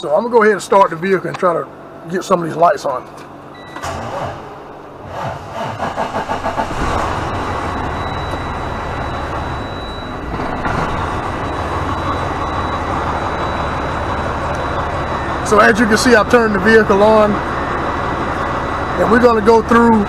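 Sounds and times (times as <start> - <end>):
diesel engine cranking and idling: 0.0 - 20.0.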